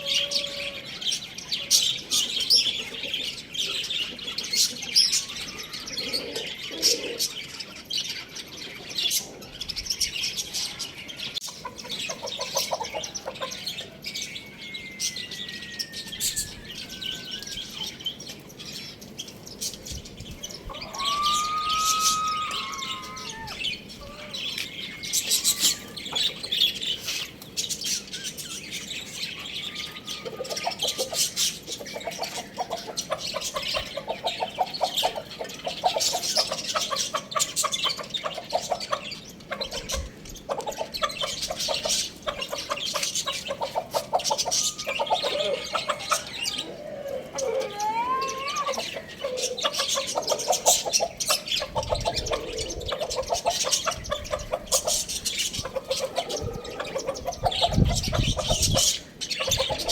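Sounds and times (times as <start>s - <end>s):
chickens clucking: 0.0s - 59.9s
small birds chirping: 0.0s - 59.9s.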